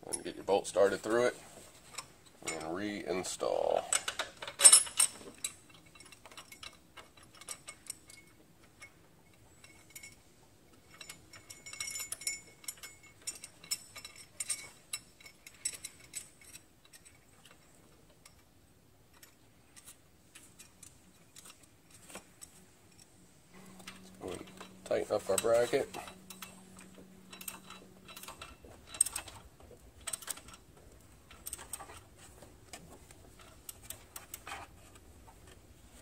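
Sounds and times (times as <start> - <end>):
faint metallic clicks and ticks: 0.0 - 36.0.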